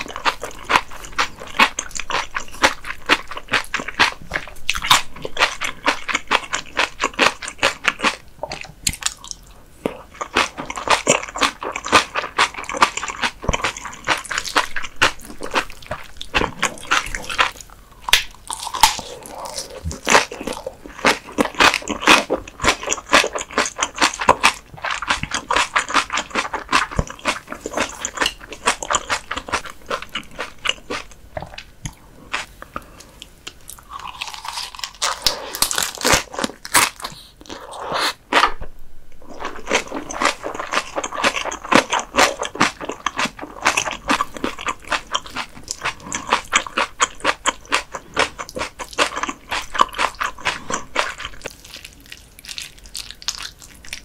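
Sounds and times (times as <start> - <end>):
crunchy chewing of lettuce: 0.0 - 38.6, 39.2 - 54.0.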